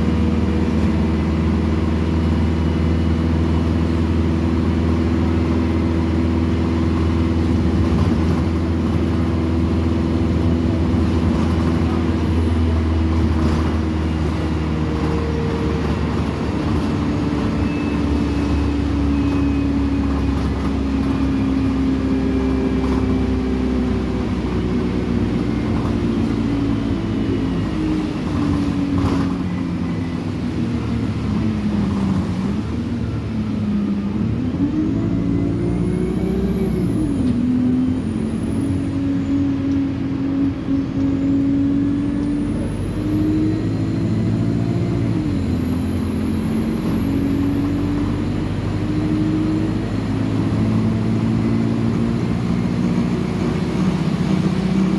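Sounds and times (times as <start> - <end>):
bus diesel engine pulling: 0.0 - 54.9.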